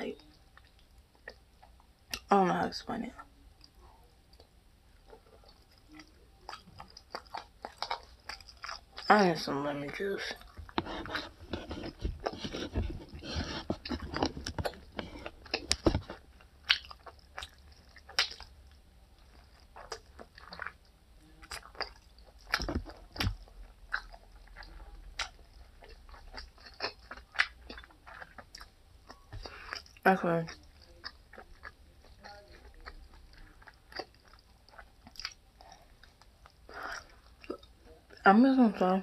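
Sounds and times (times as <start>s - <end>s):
person chewing and crunching: 3.1s - 38.2s.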